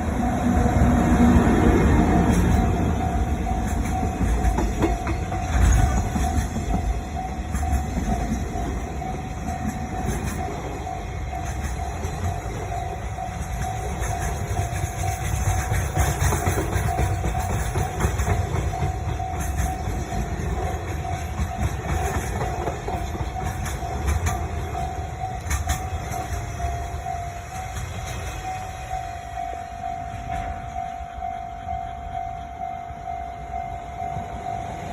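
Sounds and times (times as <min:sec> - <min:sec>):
crossing warning alarm: 0:00.0 - 0:34.9
train rolling over crossing: 0:00.0 - 0:34.9.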